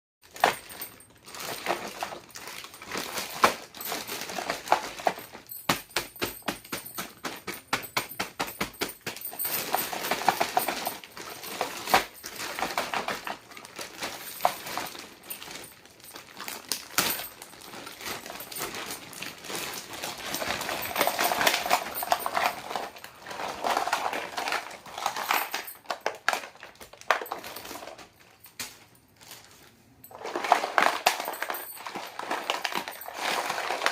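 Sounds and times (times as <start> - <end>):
plastic packaging crinkling: 0.3 - 5.6, 9.0 - 33.9
plastic toys tapping and clicking: 0.3 - 29.5.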